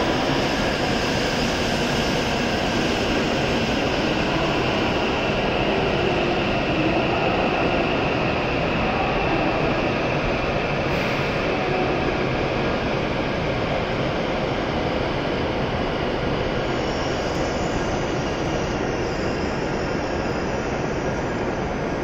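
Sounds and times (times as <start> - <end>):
train slowing to a stop: 0.0 - 22.0.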